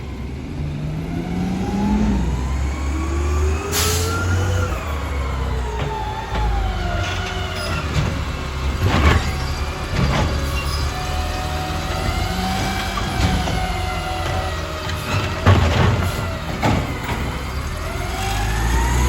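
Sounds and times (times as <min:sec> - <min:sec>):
garbage truck engine rumble: 0:00.0 - 0:19.0.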